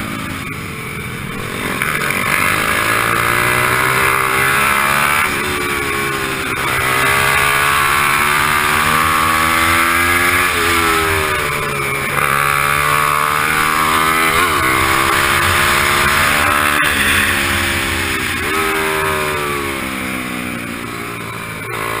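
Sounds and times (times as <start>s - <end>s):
racing motorcycle engine: 0.0s - 22.0s.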